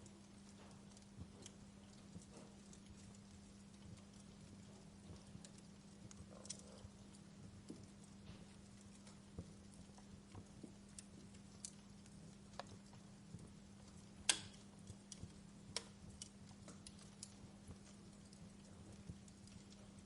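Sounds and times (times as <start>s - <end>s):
faint low hum: 0.0s - 20.0s
wood fire crackling: 0.0s - 20.0s.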